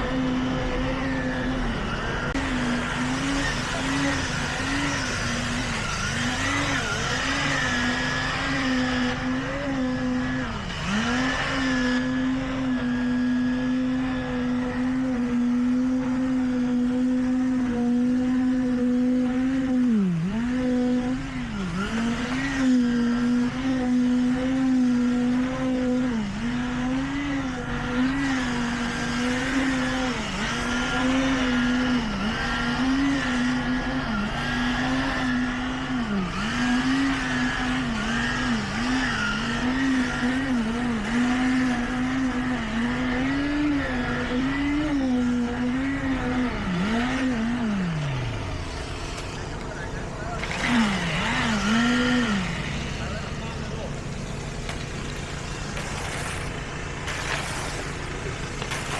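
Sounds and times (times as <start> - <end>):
machinery motor running: 0.0 - 58.9.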